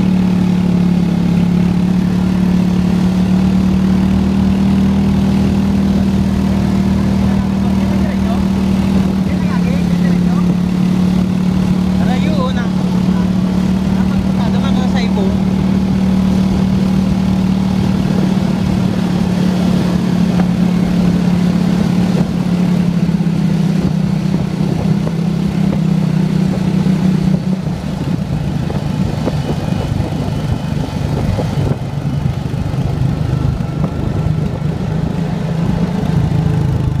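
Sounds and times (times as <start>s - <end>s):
vehicle engine cruising: 0.0s - 37.0s
wind and road noise: 0.0s - 37.0s.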